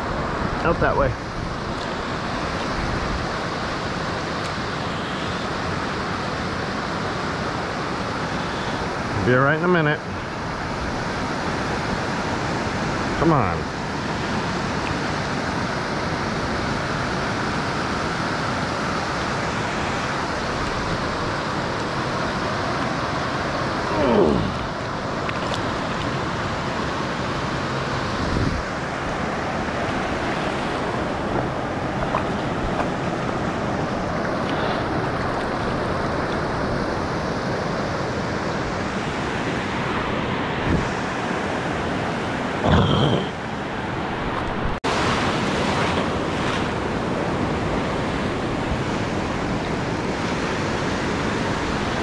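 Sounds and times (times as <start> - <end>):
ocean surf washing in: 0.0 - 52.0.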